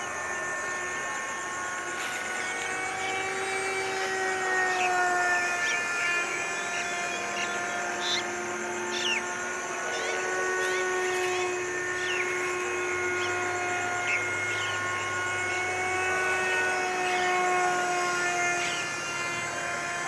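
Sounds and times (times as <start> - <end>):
small electric motor whining: 0.0 - 20.0.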